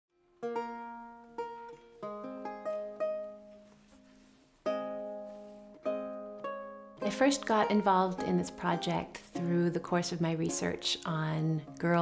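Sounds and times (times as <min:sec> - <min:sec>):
lute playing: 0:00.1 - 0:12.0.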